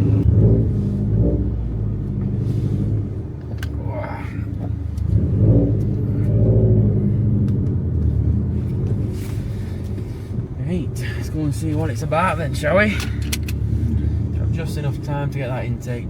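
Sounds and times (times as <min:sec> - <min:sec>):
car engine rumbling with throttle blips: 0:00.0 - 0:16.0.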